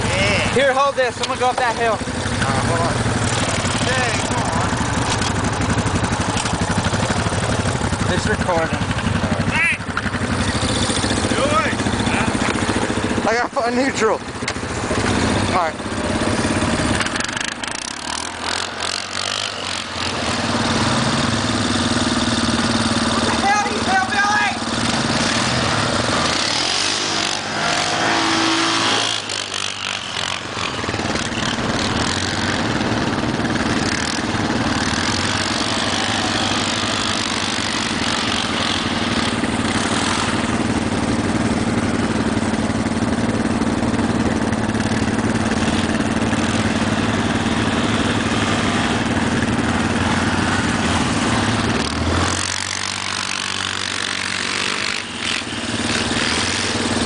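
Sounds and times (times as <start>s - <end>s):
atv engine idling: 0.0s - 57.0s
atv engine revving: 0.0s - 57.0s.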